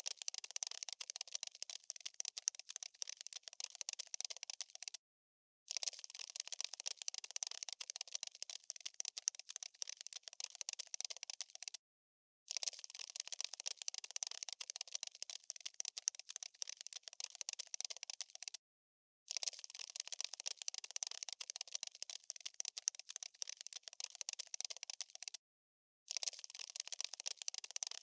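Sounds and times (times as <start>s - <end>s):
insect legs scratching and clicking: 0.0s - 5.0s, 5.7s - 11.8s, 12.5s - 18.6s, 19.3s - 25.4s, 26.1s - 28.0s.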